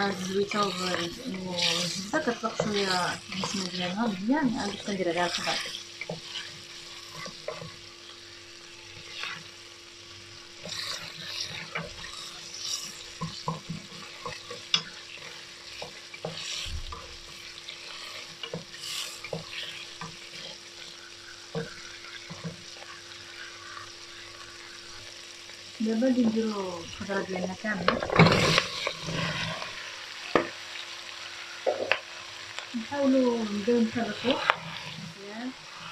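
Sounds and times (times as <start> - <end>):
wooden spoon scraping a pot: 0.0 - 7.9, 8.9 - 9.5, 10.5 - 25.1, 26.2 - 30.4, 33.4 - 35.9
onion sizzling in a pot: 0.0 - 35.9.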